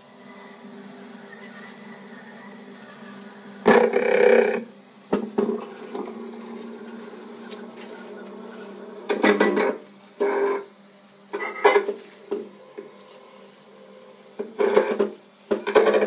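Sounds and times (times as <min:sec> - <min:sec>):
film loop scraping: 0:00.0 - 0:16.0
projector motor hum: 0:00.0 - 0:16.0.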